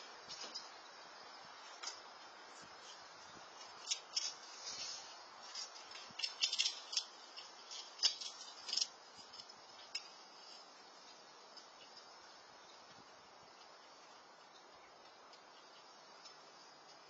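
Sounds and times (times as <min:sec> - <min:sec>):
squirrel nibbling seeds and nuts: 0:00.0 - 0:17.0.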